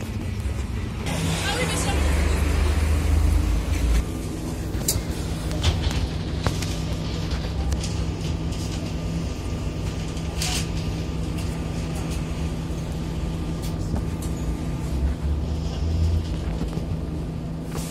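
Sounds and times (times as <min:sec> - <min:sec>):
electric train hum and rumble: 0:00.0 - 0:17.9.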